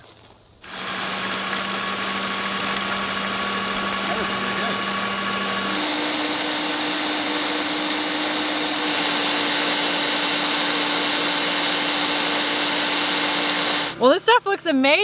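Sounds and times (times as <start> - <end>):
food processor motor humming: 0.6 - 14.1.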